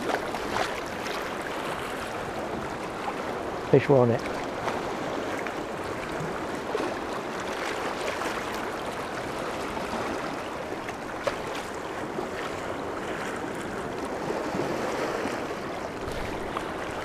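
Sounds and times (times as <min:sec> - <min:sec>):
sea water splashing over rocks: 0:00.0 - 0:17.0.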